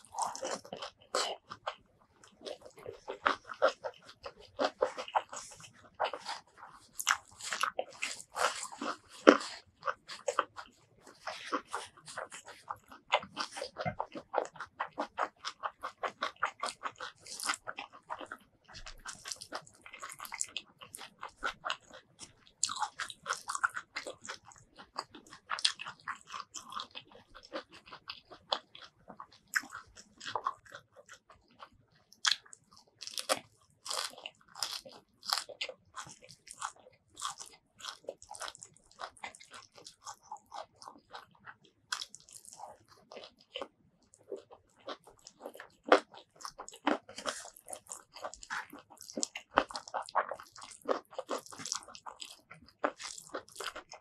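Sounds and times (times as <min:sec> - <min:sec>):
wet chewing mouth clicks: 0:00.0 - 0:54.0.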